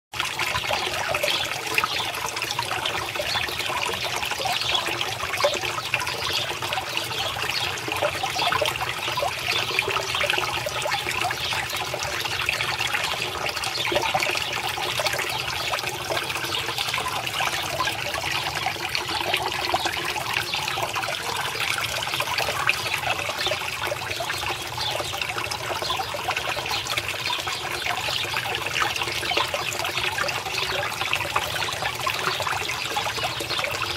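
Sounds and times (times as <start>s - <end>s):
water trickling into pond: 0.1s - 33.9s.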